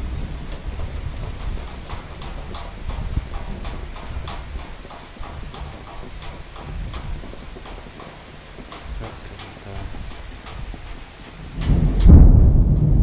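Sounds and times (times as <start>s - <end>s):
low thunder rumble: 0.0s - 7.8s, 8.8s - 13.0s
raindrops knocking on hard surface: 0.0s - 13.0s
steady rain: 0.0s - 13.0s.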